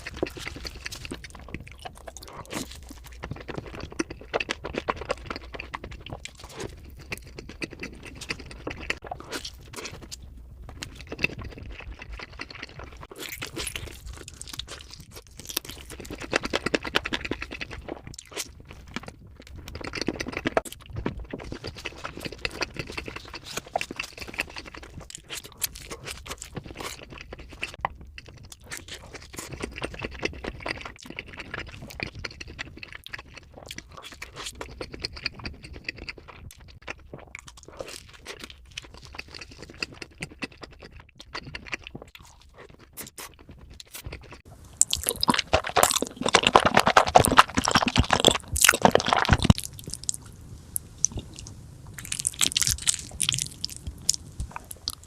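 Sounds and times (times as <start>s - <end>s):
chewing pizza: 0.0s - 55.0s.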